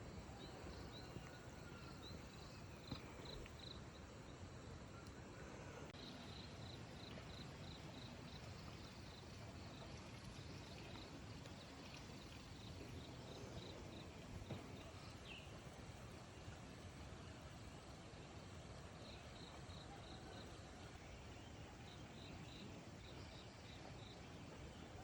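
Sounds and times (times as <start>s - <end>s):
steady low hiss: 0.0s - 25.0s.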